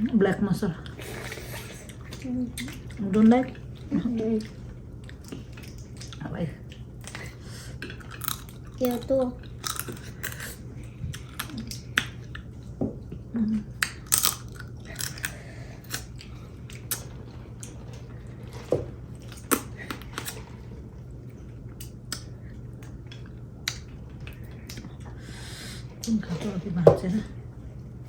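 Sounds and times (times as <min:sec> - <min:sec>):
people chewing food: 0:00.2 - 0:26.3.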